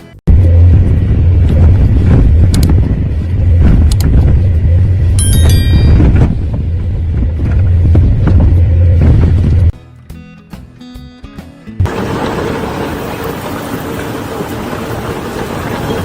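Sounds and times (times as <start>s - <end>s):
low mechanical rumble: 0.3s - 9.8s, 11.8s - 16.0s.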